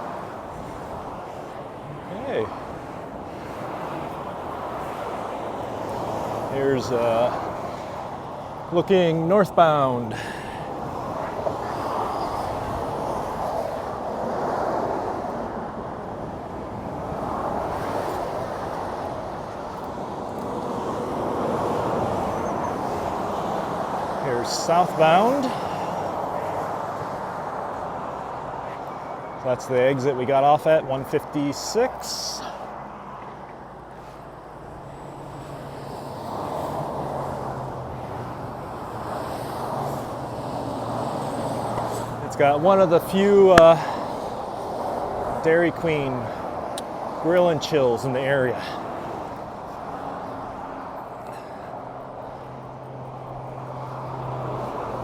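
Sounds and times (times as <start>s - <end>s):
highway traffic rushing: 0.0s - 55.0s.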